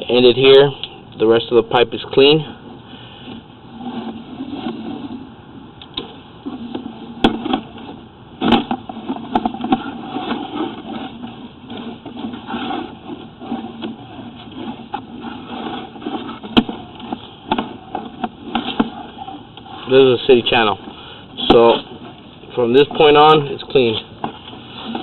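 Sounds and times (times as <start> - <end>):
cable rustling and scraping in pipe: 2.2 - 25.0.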